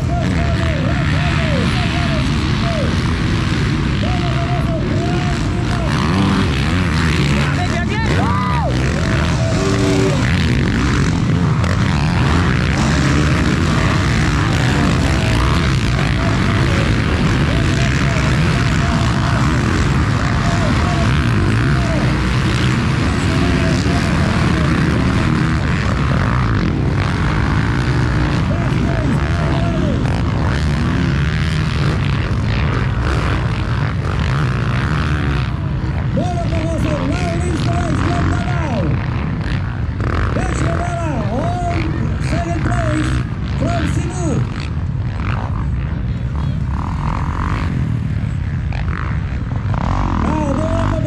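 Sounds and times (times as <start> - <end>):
dirt bike engines running: 0.0 - 51.0
heavy low-pitched noise: 0.0 - 51.0.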